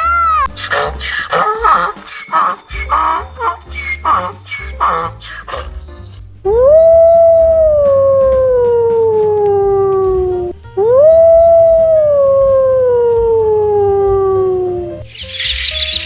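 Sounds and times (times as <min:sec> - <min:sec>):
dog howling: 0:00.0 - 0:05.8, 0:06.5 - 0:15.1.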